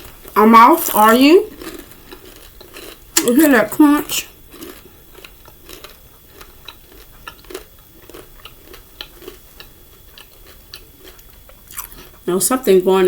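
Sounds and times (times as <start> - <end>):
crunchy chewing: 0.0 - 12.3.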